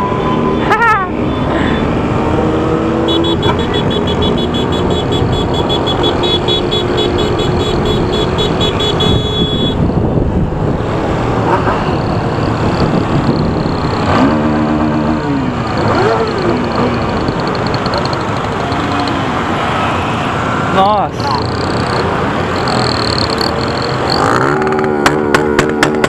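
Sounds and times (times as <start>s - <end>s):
motorcycle road and wind noise: 0.0s - 26.0s.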